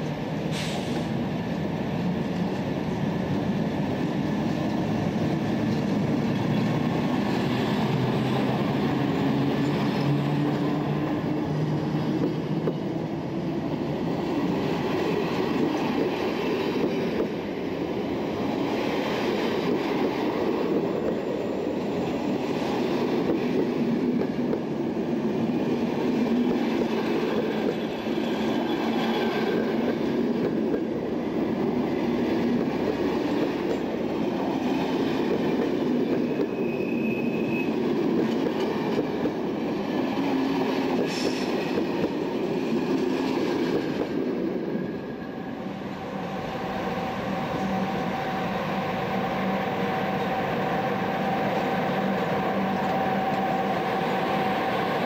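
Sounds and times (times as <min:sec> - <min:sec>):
electric locomotive whine: 0:00.0 - 0:55.0
train wheels rushing on rails: 0:00.0 - 0:55.0.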